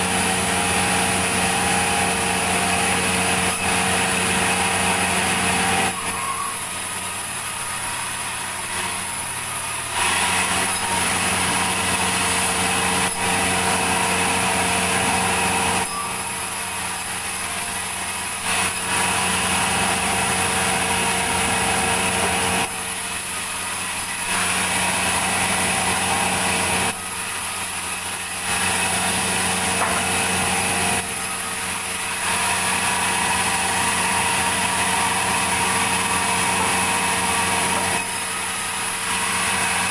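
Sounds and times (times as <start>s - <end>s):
machine hum: 0.0s - 39.9s
sawmill saw cutting logs: 0.0s - 39.9s.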